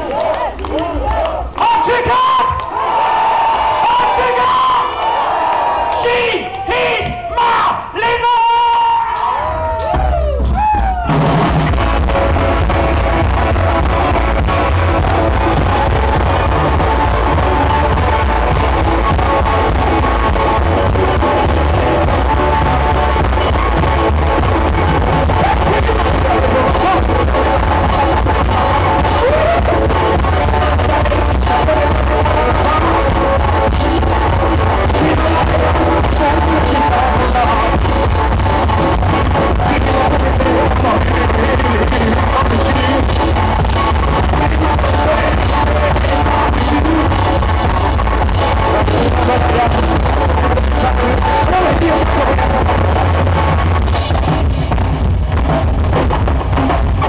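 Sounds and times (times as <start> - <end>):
crowd cheering: 0.0 - 57.0
drums: 0.0 - 57.0
rock and roll band playing: 0.0 - 57.0
electric guitar: 9.2 - 57.0
upright double bass: 9.9 - 57.0.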